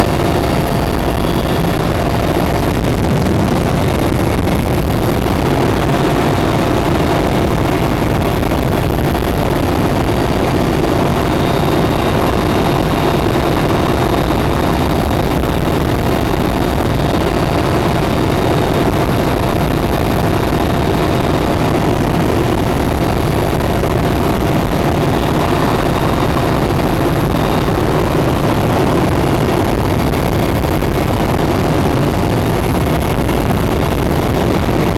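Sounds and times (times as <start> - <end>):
faint steady whine: 0.0 - 34.9
helicopter engines and rotor: 0.0 - 34.9.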